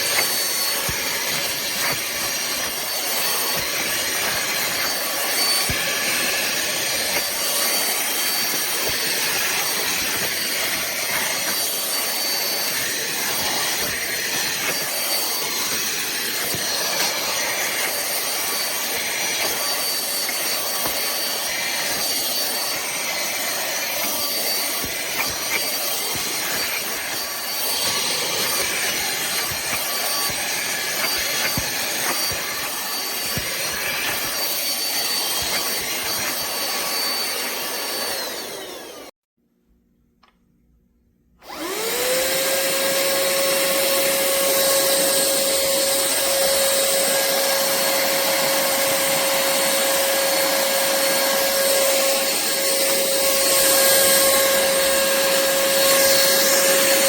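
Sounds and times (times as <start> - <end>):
handheld vacuum cleaner running: 0.0 - 39.2, 41.4 - 57.0.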